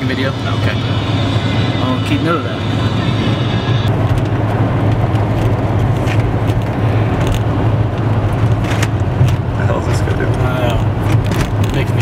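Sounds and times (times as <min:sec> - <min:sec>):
tyre and engine rumble: 0:00.0 - 0:12.0.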